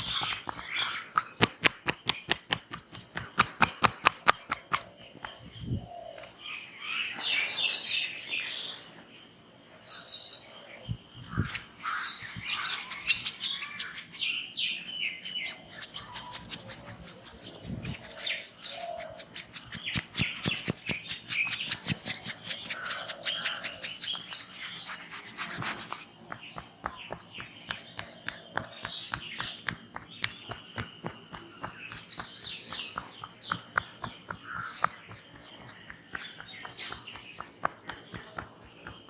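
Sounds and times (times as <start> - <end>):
hands tapping on head: 0.0 - 5.4, 12.2 - 14.3, 15.0 - 39.0
small birds chirping: 0.0 - 39.0.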